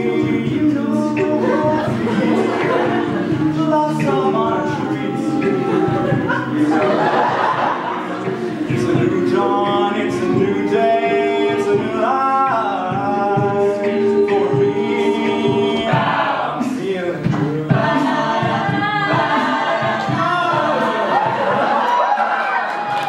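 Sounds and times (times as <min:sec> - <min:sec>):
a cappella group singing: 0:00.0 - 0:23.0.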